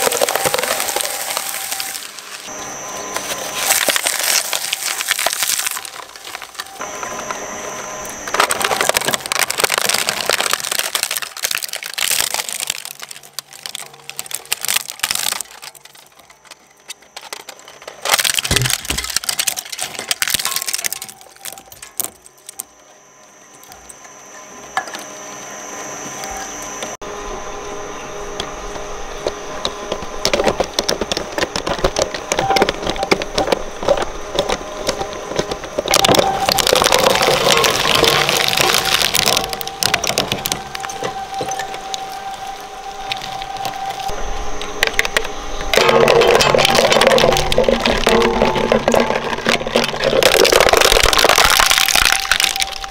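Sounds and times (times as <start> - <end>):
shredder crunching plastic toys: 0.0 - 26.9, 28.2 - 52.9
thin high whine: 0.0 - 52.9.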